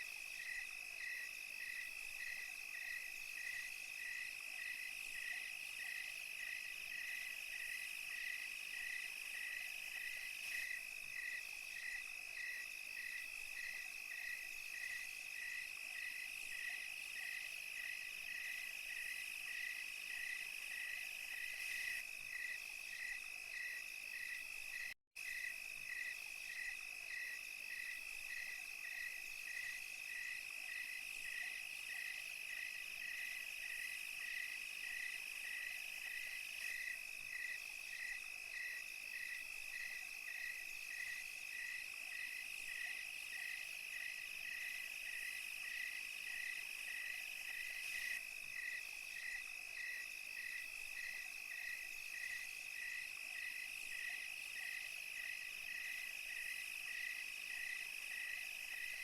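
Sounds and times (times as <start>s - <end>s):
insect chirping: 0.0s - 59.0s
insect chorus trilling: 0.0s - 59.0s.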